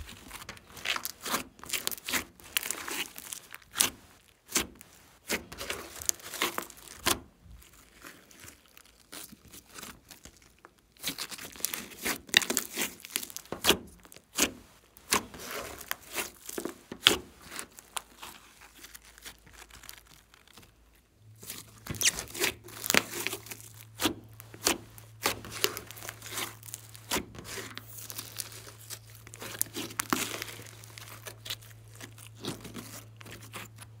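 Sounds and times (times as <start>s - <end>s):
slime crackling and popping: 0.0s - 34.0s.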